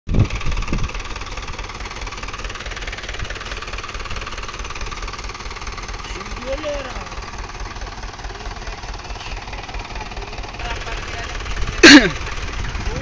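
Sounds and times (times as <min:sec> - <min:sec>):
tractor engine running: 0:00.1 - 0:13.0.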